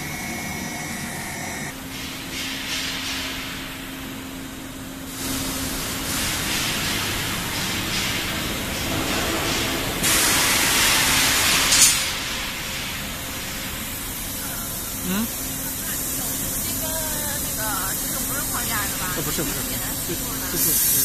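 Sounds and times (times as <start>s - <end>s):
machinery hissing and humming: 0.0s - 21.0s.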